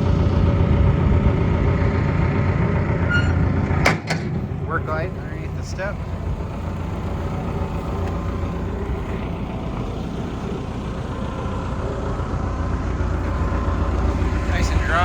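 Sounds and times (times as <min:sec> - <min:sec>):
excavator diesel engine idling: 0:00.0 - 0:15.0.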